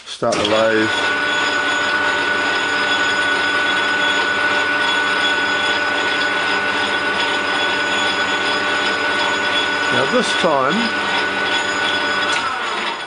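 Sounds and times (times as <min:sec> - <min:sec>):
metal lathe running: 0:00.2 - 0:13.0.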